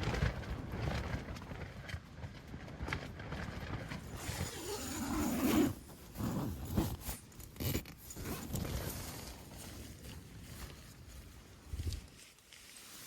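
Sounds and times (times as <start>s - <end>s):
tent fabric flapping: 0.0s - 13.0s.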